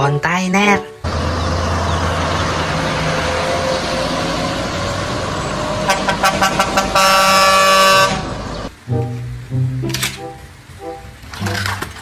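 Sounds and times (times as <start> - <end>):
road noise: 0.0 - 12.0
lorry diesel engines rumbling: 1.0 - 12.0.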